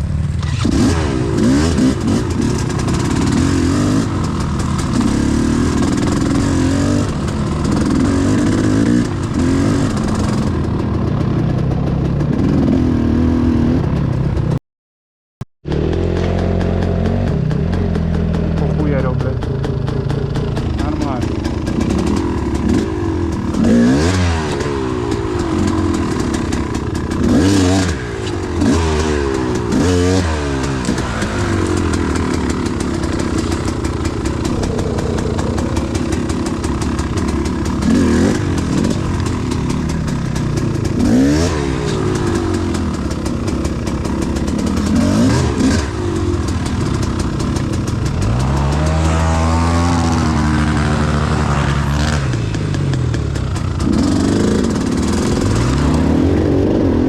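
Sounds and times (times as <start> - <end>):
motorcycle engine revving: 0.0 - 14.6, 15.6 - 57.0.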